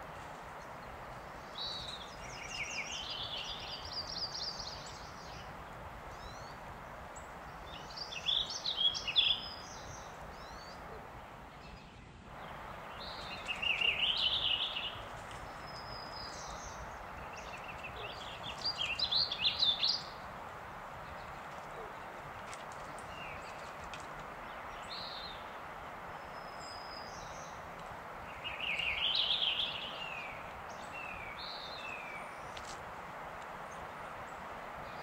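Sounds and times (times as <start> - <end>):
outdoor background hiss: 0.0 - 35.0
songbirds chattering: 0.0 - 35.0.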